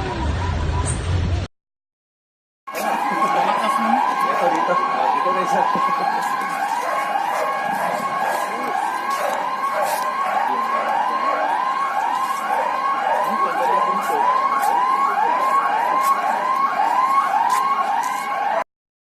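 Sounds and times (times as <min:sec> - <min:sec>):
electronic siren sweeping: 0:00.0 - 0:01.5, 0:02.7 - 0:18.7.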